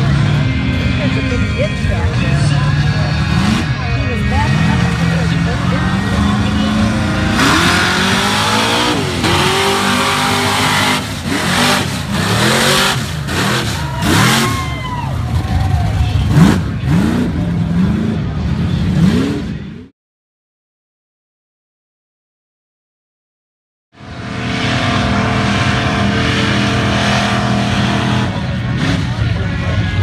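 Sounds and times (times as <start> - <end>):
truck engine revving in mud: 0.0 - 19.9, 24.0 - 30.0.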